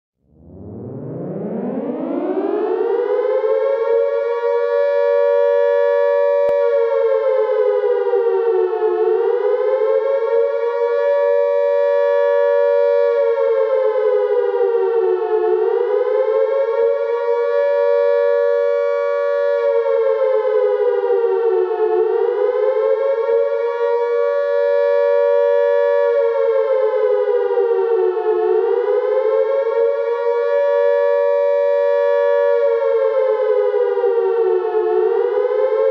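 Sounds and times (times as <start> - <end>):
siren-like wail: 0.3 - 35.9.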